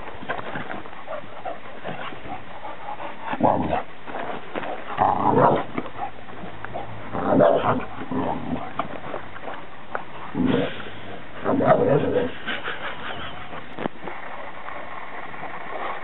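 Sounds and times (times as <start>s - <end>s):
dogs barking in play: 0.0s - 16.0s.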